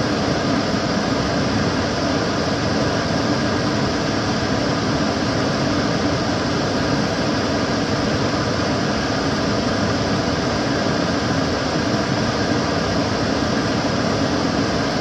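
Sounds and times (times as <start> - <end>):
extractor fan running: 0.0 - 15.0.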